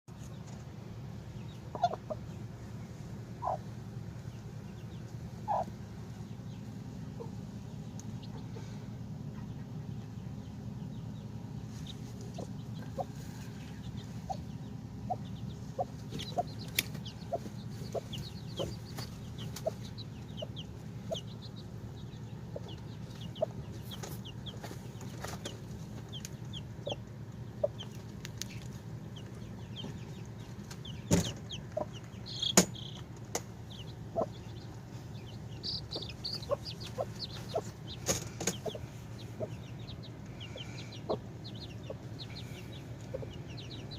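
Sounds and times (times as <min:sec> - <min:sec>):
chicks peeping: 0:00.1 - 0:43.9
steady low hum: 0:00.1 - 0:43.9
hen clucking softly: 0:01.4 - 0:02.5, 0:03.4 - 0:03.8, 0:04.7 - 0:05.9, 0:06.5 - 0:10.4, 0:11.6 - 0:33.0, 0:33.6 - 0:43.9.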